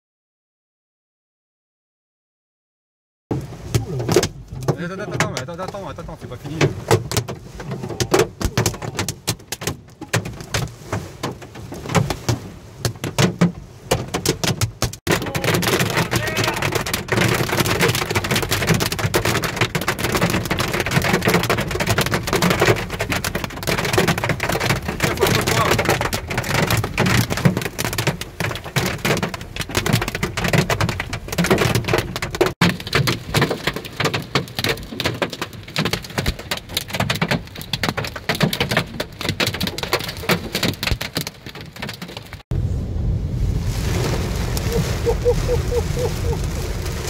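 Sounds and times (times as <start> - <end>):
hail and rain on car roof: 3.3 - 42.5, 43.8 - 47.0.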